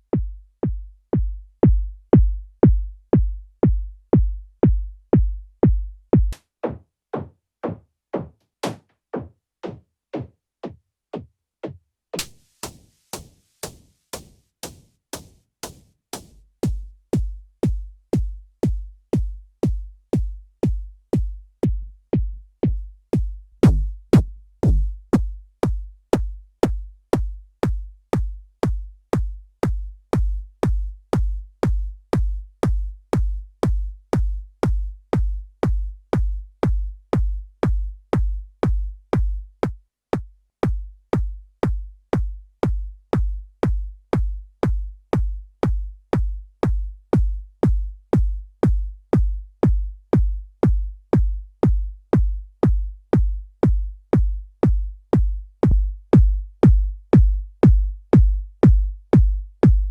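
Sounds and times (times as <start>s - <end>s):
electronic kick drum loop: 0.0s - 59.9s.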